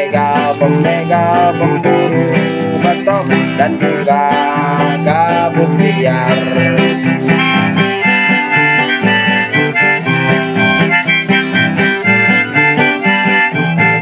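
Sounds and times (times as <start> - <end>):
guitar: 0.0 - 14.0
harmonica melody: 0.0 - 14.0.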